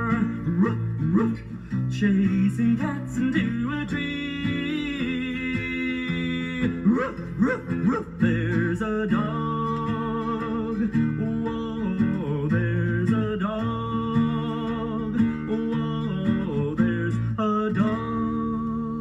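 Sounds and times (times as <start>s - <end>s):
guitar: 0.0s - 19.0s.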